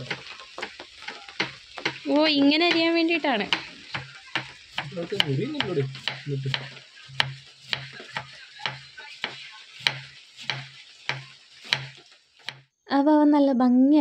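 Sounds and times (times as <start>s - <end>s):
knife chopping on cutting board: 0.0s - 2.9s, 3.5s - 12.6s.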